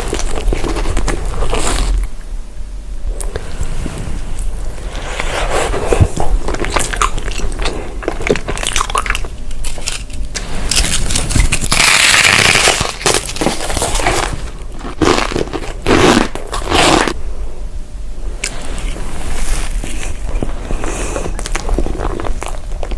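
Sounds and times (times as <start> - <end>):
person chewing crunchy food: 0.0 - 2.2, 4.4 - 17.2, 18.4 - 22.9.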